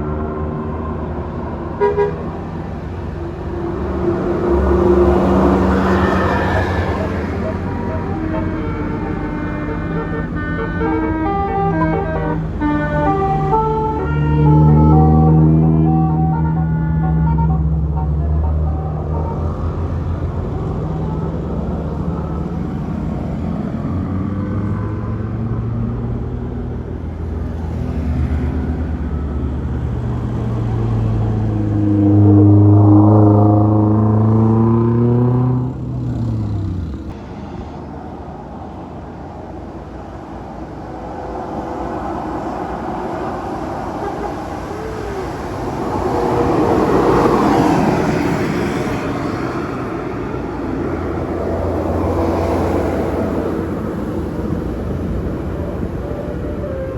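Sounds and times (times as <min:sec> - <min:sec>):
bus engine revving: 0:00.0 - 0:37.3, 0:38.6 - 0:56.9
rushing vehicle noise: 0:00.0 - 0:56.9.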